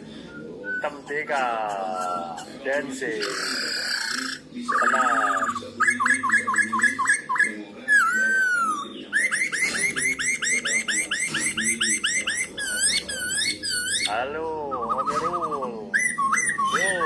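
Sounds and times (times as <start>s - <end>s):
bird whistled notes: 3.2s - 17.0s.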